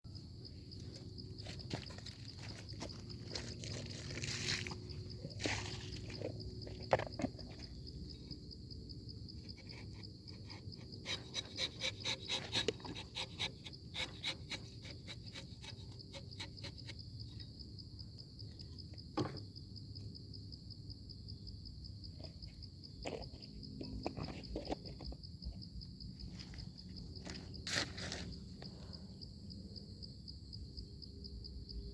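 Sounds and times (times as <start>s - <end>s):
insects trilling: 0.1s - 31.9s.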